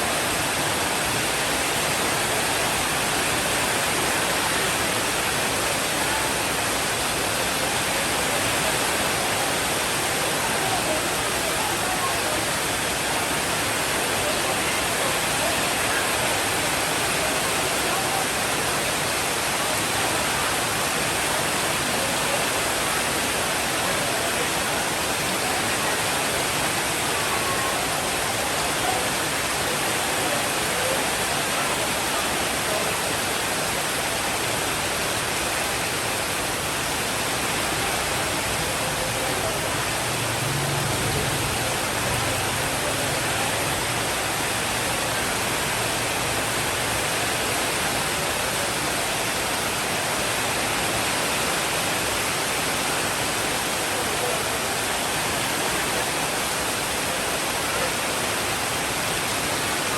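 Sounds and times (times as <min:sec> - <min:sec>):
rainfall hiss: 0:00.0 - 0:59.9.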